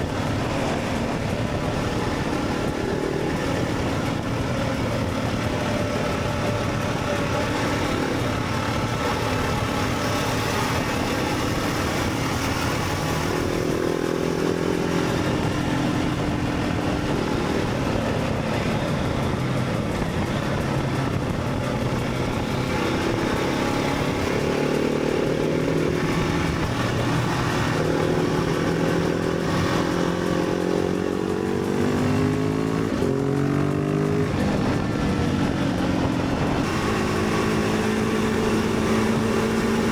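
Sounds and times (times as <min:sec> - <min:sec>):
motorcycle engine revving: 0:00.0 - 0:39.9
wind noise rushing: 0:00.0 - 0:39.9.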